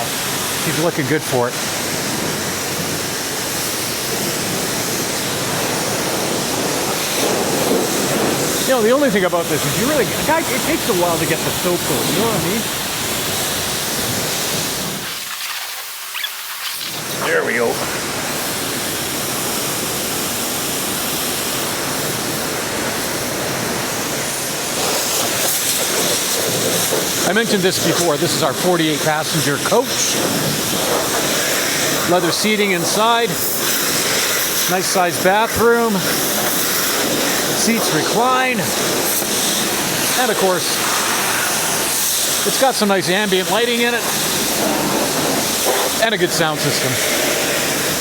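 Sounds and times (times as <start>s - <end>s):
spray wand water hissing: 0.0s - 48.0s.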